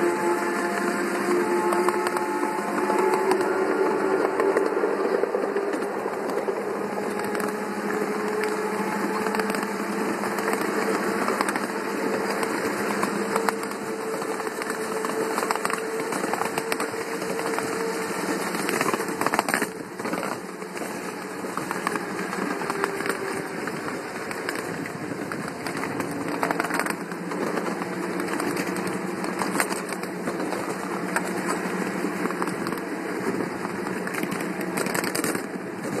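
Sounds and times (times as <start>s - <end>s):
locomotive drive hum: 0.0s - 36.0s
train wheels clattering on rails: 0.0s - 36.0s.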